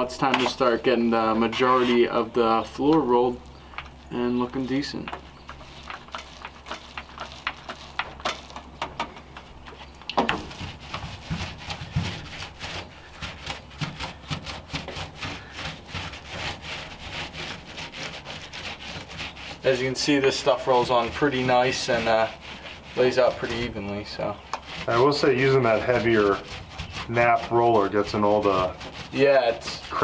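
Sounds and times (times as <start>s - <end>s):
paint roller rubbing on metal: 0.0s - 3.3s, 4.1s - 8.8s, 9.8s - 30.0s.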